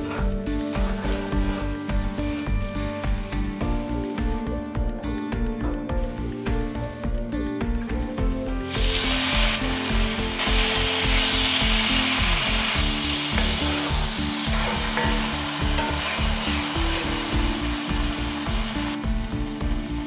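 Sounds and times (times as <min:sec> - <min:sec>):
sauce sizzling in hot oil: 0:00.0 - 0:04.6, 0:08.4 - 0:20.0
instrumental background music: 0:00.0 - 0:20.0.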